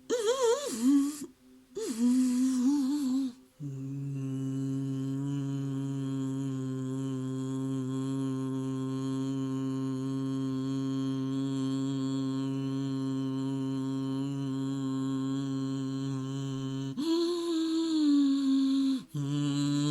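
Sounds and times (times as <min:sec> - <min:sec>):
breathy wavering vocal sounds: 0:00.1 - 0:19.9
vocal hum drone: 0:00.1 - 0:19.9.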